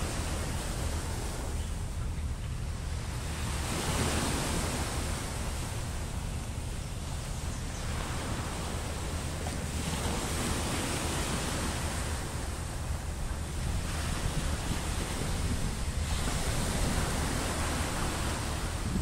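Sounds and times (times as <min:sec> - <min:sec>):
sea surf breaking ashore: 0:00.0 - 0:19.0
wind on microphone: 0:00.0 - 0:19.0.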